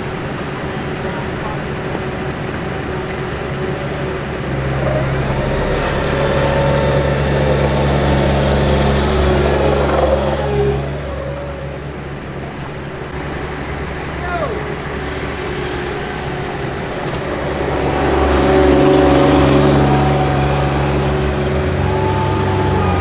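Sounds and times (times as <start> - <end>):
heavy engine passing by: 0.0 - 23.0.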